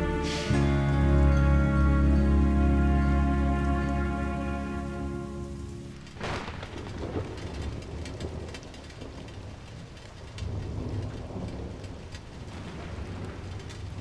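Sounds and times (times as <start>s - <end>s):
low thunder rumbling: 0.0s - 14.0s
rain on a window: 0.0s - 14.0s.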